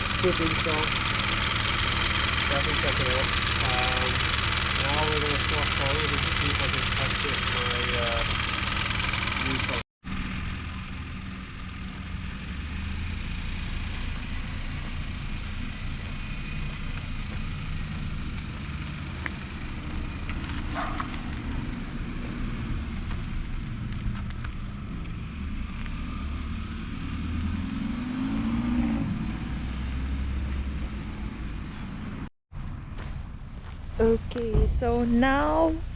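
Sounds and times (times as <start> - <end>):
car engine low rumble: 0.0 - 35.9.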